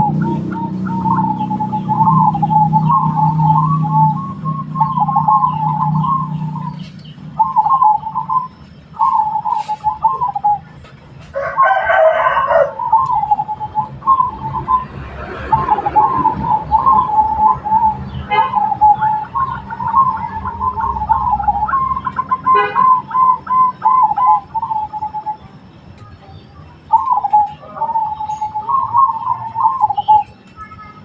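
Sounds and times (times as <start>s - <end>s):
harsh bird call: 0.0s - 10.7s, 11.4s - 25.5s, 26.2s - 31.0s
doves cooing: 0.0s - 25.7s, 26.5s - 30.4s.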